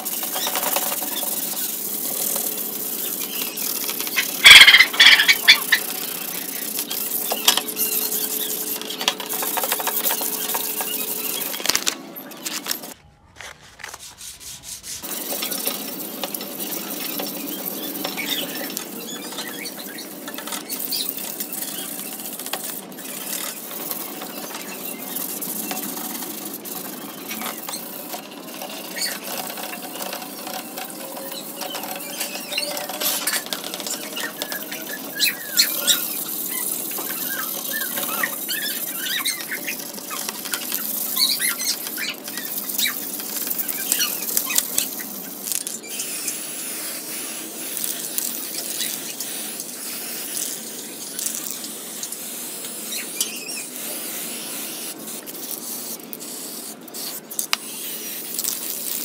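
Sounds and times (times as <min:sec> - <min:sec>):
sanding and scraping plastic: 0:00.0 - 0:59.0.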